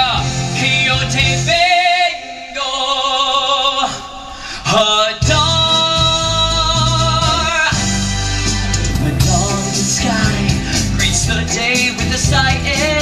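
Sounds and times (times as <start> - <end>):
backing music track: 0.0 - 2.3, 4.8 - 13.0
man singing with vibrato: 0.0 - 13.0.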